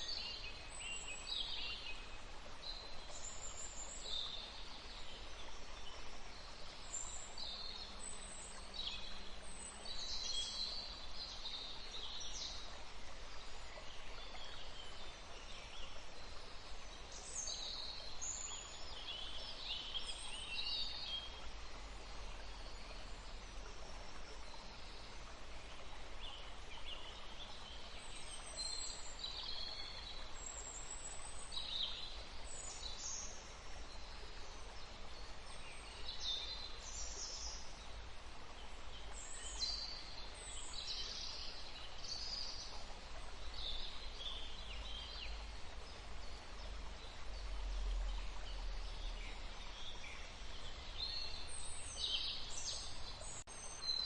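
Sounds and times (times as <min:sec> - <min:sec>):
soft hiss: 0:00.0 - 0:54.0.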